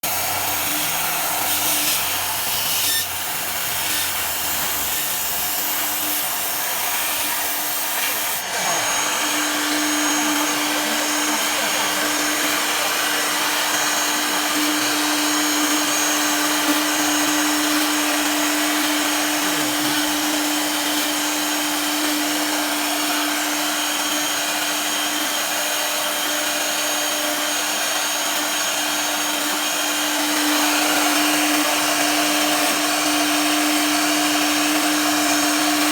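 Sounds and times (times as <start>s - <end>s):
drilling machine whirring: 0.0s - 35.9s.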